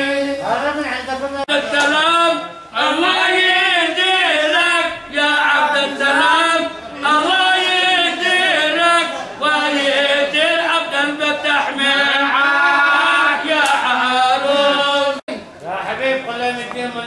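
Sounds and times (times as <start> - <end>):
man singing: 0.0 - 15.2.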